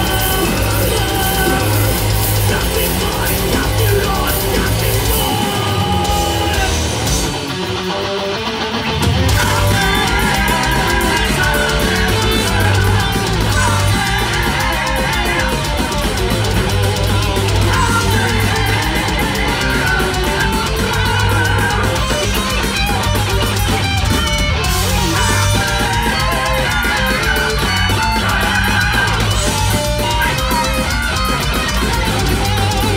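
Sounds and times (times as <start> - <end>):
person singing: 0.0 - 7.2, 9.3 - 23.7, 24.7 - 32.9
distorted electric guitars: 0.0 - 32.9
fast drumming: 0.0 - 32.9.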